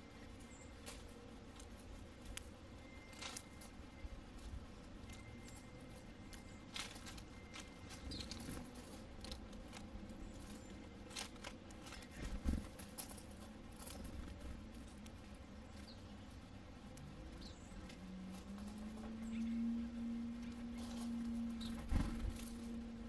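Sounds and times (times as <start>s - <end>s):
birds cracking seeds: 0.0s - 23.0s.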